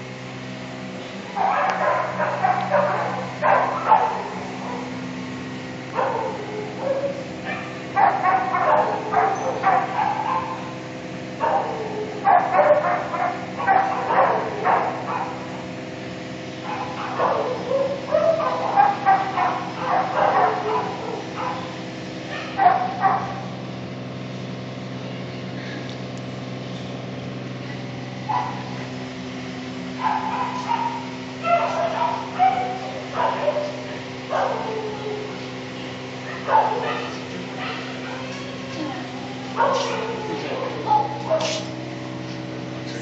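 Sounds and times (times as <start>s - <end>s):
steady low hum: 0.0s - 43.0s
dogs barking and yipping: 1.2s - 23.7s, 28.1s - 42.9s.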